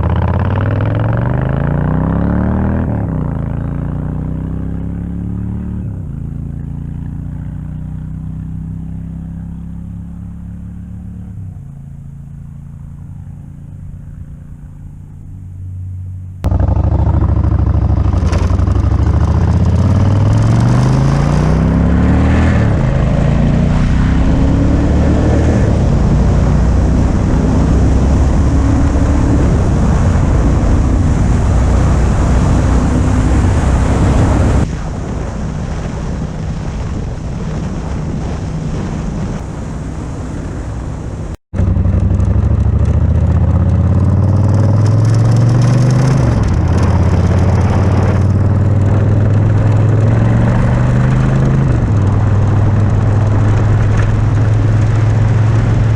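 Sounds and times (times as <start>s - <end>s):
machinery engine revving: 0.0s - 14.8s, 16.4s - 34.7s, 39.3s - 55.9s.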